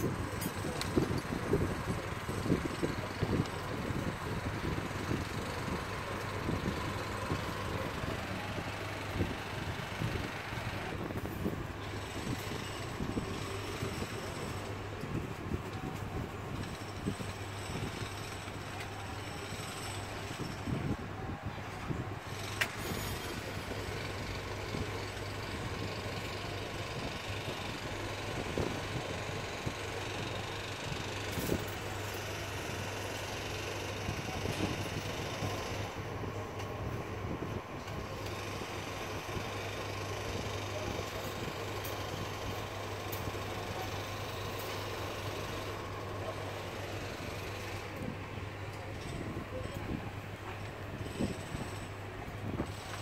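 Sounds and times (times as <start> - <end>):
low mechanical hum and rumble: 0.0 - 53.0
whir of moving air: 0.0 - 53.0.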